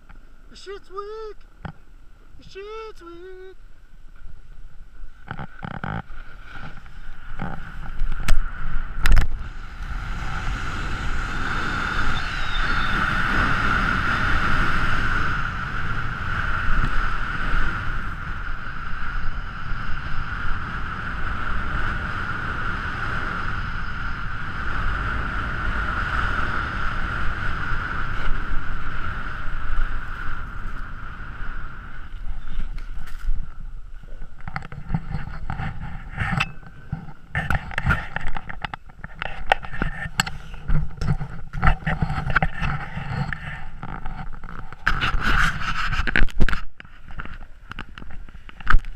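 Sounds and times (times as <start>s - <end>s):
wind over microphone: 4.6s - 48.9s.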